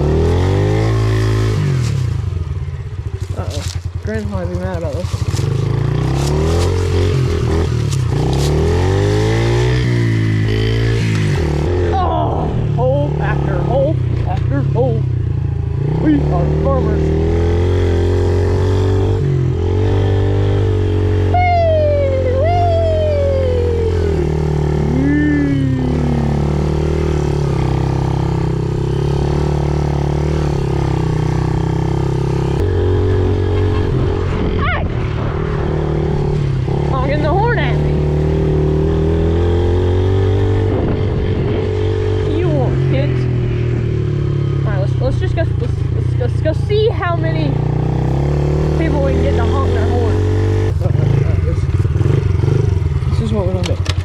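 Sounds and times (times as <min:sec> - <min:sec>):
small engine revving: 0:00.0 - 0:54.0.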